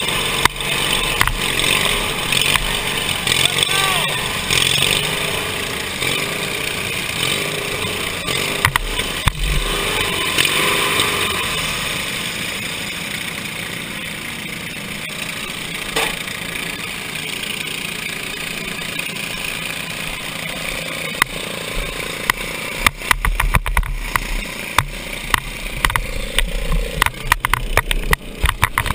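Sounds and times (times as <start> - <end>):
lawn mower engine running: 0.0 - 28.9
sharp knocks and rumbling buffets: 0.0 - 28.9.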